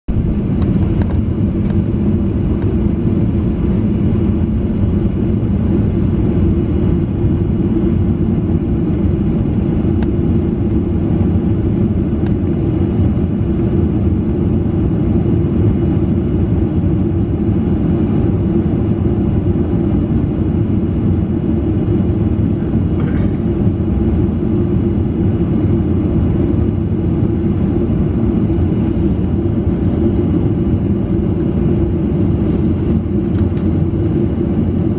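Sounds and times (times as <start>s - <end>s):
jet engines idling: 0.1s - 34.9s.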